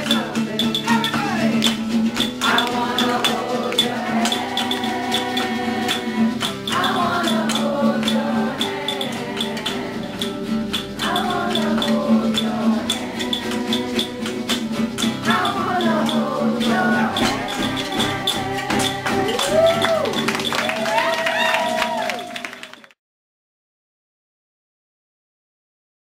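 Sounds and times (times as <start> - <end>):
people singing: 0.0 - 22.1
hand percussion rhythm: 0.0 - 22.7.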